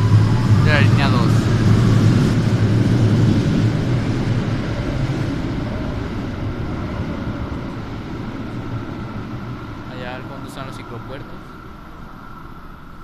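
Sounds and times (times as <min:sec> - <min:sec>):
light rail train rumbling: 0:00.0 - 0:13.0.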